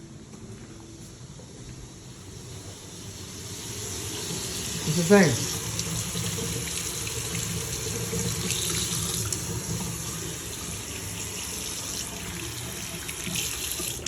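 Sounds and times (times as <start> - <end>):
faucet running water: 2.2 - 14.0.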